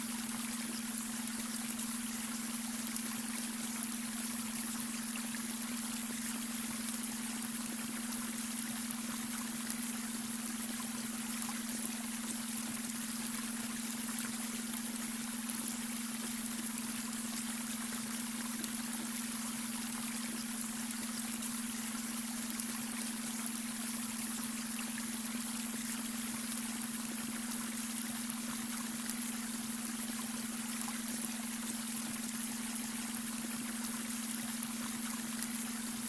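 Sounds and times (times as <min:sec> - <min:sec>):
brook water trickling over stones: 0:00.0 - 0:36.0.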